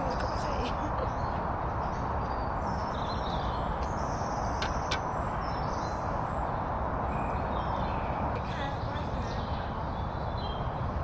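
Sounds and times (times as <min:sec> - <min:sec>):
small birds chirping: 0:00.0 - 0:11.0
woodland background noise: 0:00.0 - 0:11.0.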